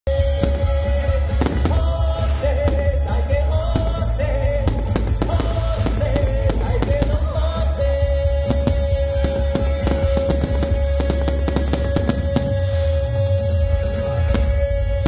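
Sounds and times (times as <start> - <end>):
festive song with heavy bass: 0.1 - 15.0
fireworks bangs and pops: 0.1 - 15.0.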